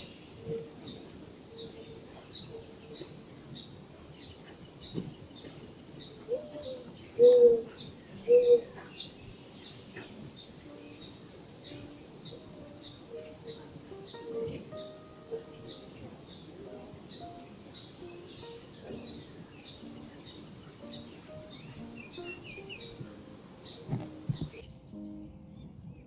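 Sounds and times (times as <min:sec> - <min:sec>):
bird trill: 0:00.0 - 0:24.7
small birds chirping: 0:00.0 - 0:26.0.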